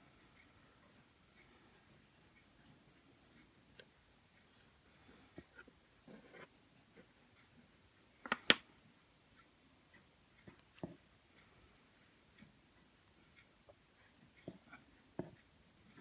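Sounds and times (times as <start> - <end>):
small clicks and taps from modelling tools: 0.3 - 8.7, 9.4 - 11.6, 12.3 - 16.0.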